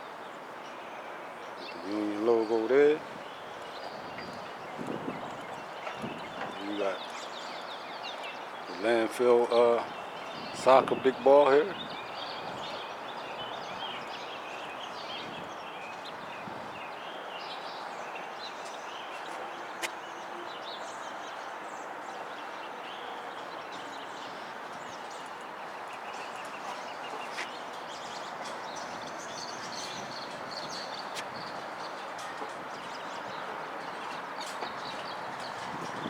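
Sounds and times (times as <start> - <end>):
outdoor background noise: 0.0 - 36.0
small birds chirping: 1.4 - 36.0.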